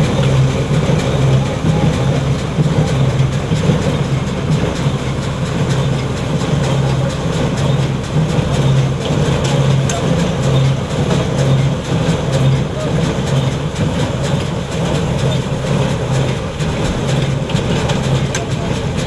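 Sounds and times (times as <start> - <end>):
low machine hum: 0.0 - 19.0
machine mechanical clatter: 0.0 - 19.0.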